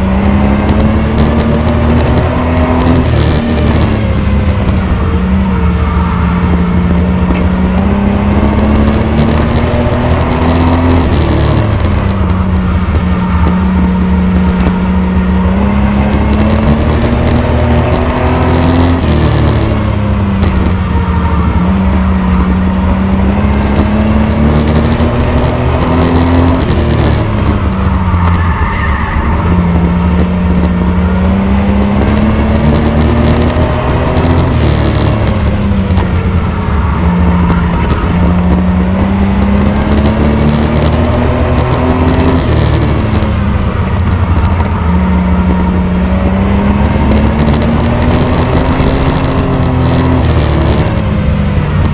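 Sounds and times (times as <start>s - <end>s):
race truck engine running hard: 0.0s - 51.9s.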